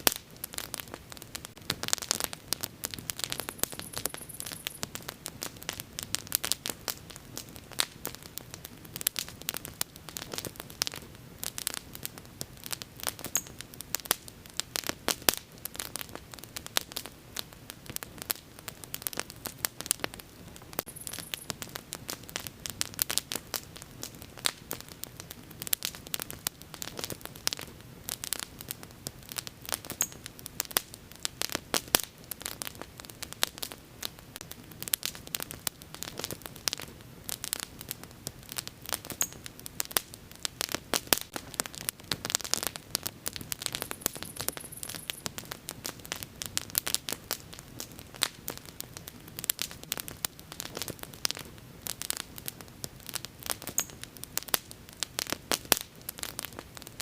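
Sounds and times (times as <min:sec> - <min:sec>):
bonfire pops and snaps: 0:00.0 - 0:57.0.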